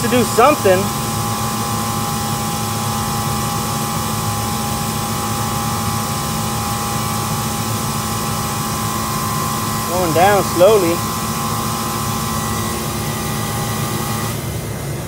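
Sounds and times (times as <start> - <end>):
refrigeration unit humming: 0.0 - 15.0.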